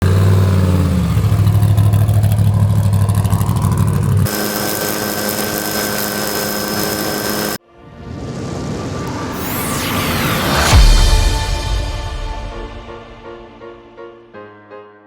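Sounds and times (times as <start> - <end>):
steady engine with high whine: 0.0 - 13.2
truck engine pulsing loudly: 0.0 - 13.2.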